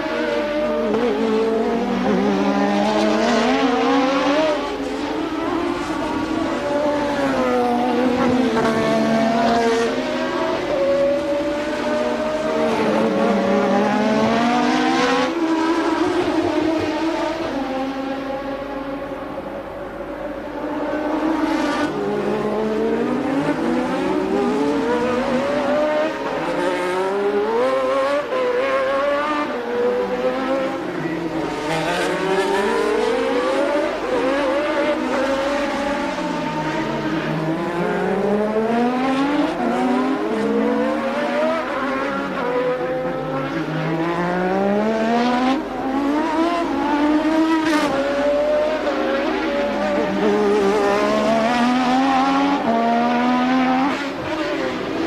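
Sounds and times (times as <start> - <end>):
race car engines at racing speed: 0.0 - 55.0.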